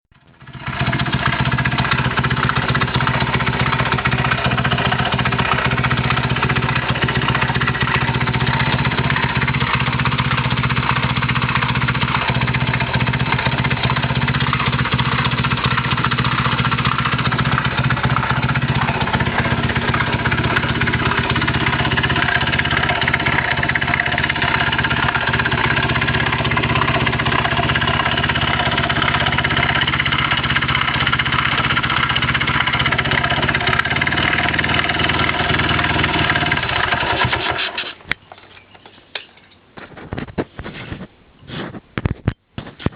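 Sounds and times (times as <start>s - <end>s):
small motorcycle engine idling: 0.2s - 39.2s.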